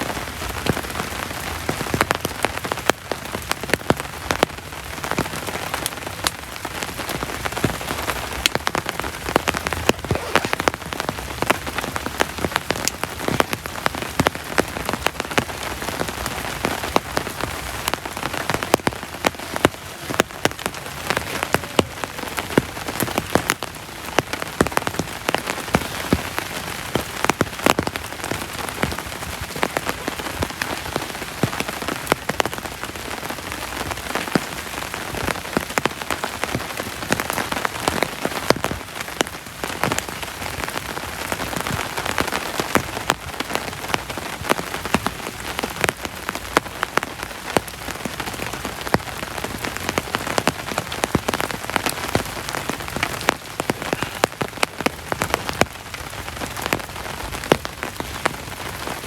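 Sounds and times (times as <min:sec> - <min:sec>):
heavy rain: 0:00.0 - 0:59.0
raindrops hitting a surface: 0:00.0 - 0:59.0.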